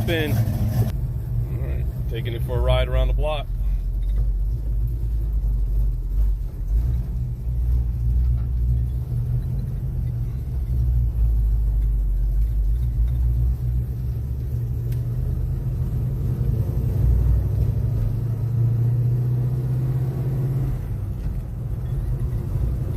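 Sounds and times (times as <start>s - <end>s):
car engine rumbling: 0.0s - 22.9s.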